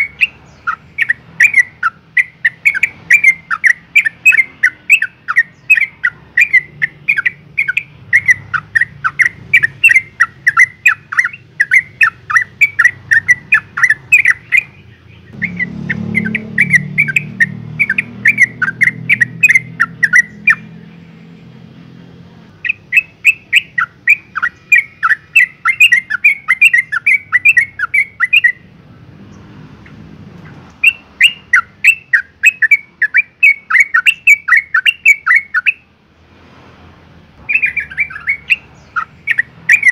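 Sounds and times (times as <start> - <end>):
bird chattering calls: 0.0 - 21.1, 22.5 - 28.7, 29.8 - 35.9, 37.4 - 39.9.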